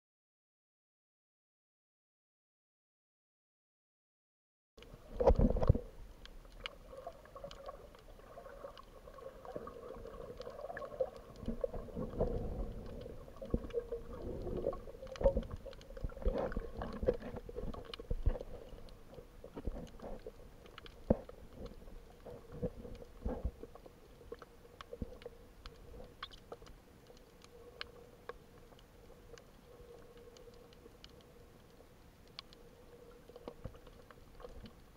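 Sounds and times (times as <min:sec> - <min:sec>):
faint steady hum: 0:04.8 - 0:34.9
small water clicks: 0:04.8 - 0:34.9.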